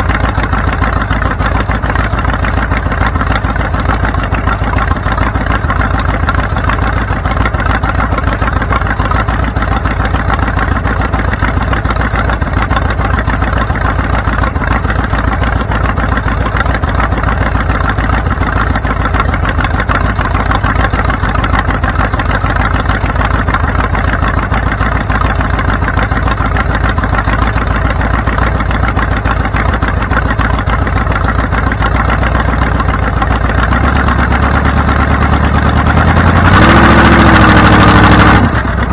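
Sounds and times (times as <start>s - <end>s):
vehicle engine pulsing: 0.0s - 38.9s.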